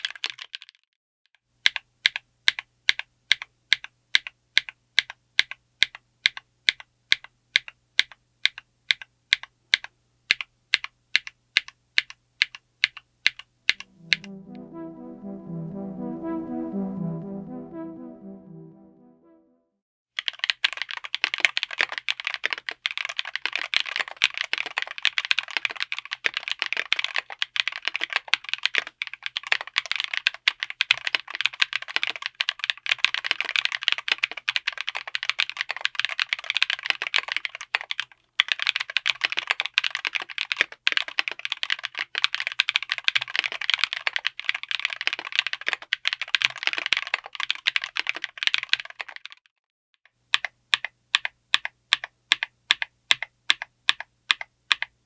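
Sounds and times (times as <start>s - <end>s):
fast typing on mechanical keyboard: 0.0s - 0.8s, 1.7s - 13.8s, 20.2s - 49.4s, 50.3s - 54.9s.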